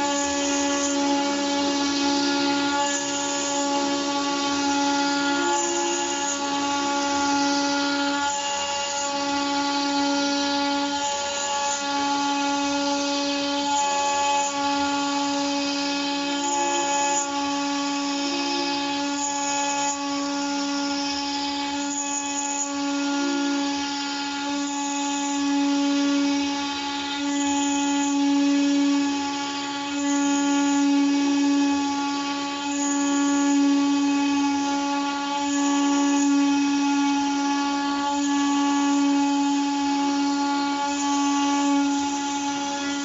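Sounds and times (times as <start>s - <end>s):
cnc router spindle whine: 0.0s - 43.0s.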